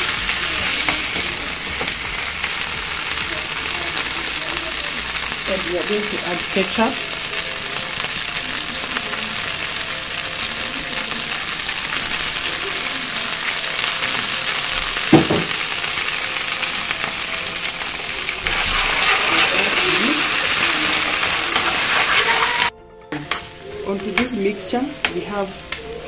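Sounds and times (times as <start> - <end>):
oil sizzling in frying pan: 0.0 - 26.0.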